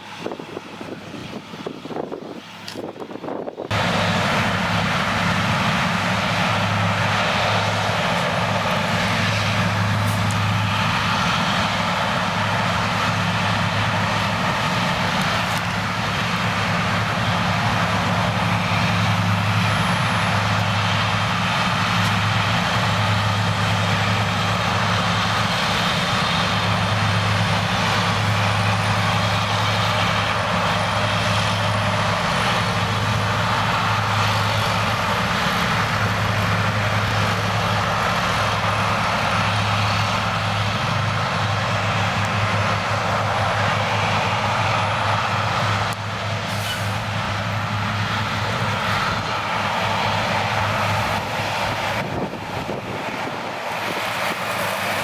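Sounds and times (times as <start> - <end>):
vehicle engine drone: 0.0 - 55.0.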